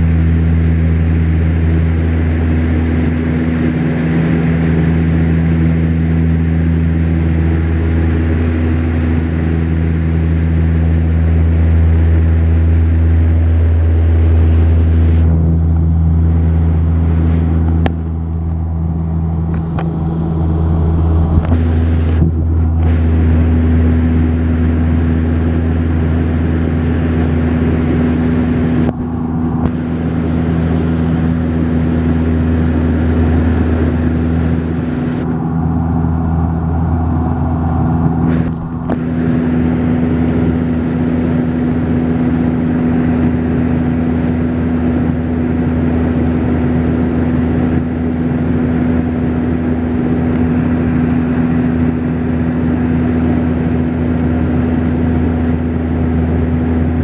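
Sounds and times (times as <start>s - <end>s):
propeller hum: 0.0s - 57.0s.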